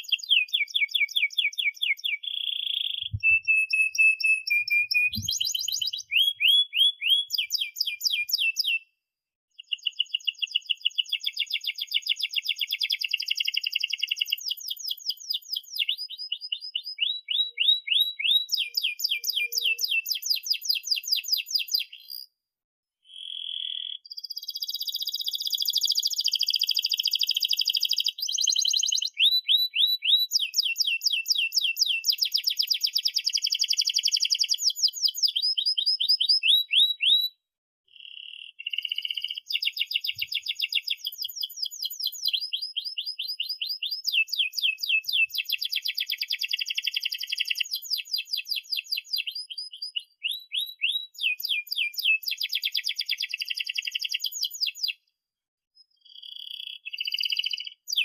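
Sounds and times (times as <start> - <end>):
canary singing trills: 0.0 - 8.9, 9.6 - 22.3, 23.1 - 37.3, 37.9 - 55.0, 55.8 - 58.0.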